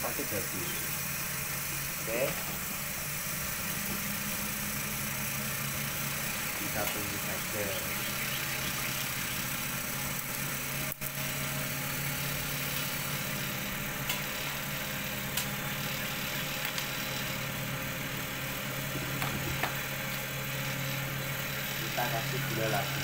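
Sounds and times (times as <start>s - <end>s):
even hiss: 0.0s - 23.0s
motor humming: 0.0s - 23.0s.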